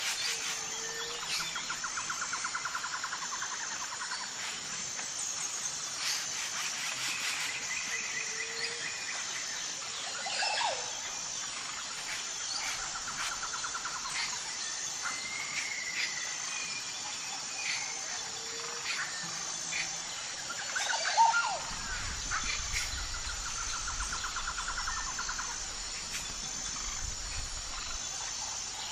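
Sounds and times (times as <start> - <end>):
high-pitched insect drone: 0.0 - 28.9.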